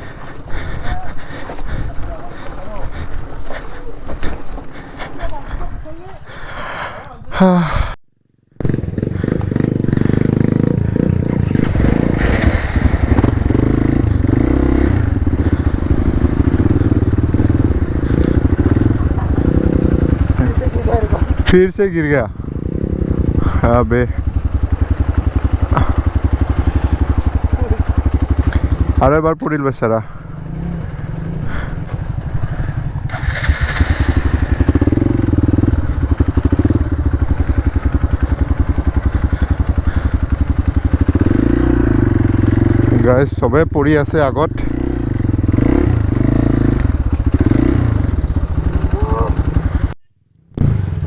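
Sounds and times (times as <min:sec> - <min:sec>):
motorcycle engine revving unevenly: 0:00.0 - 0:06.5, 0:08.6 - 0:29.4, 0:30.0 - 0:51.0.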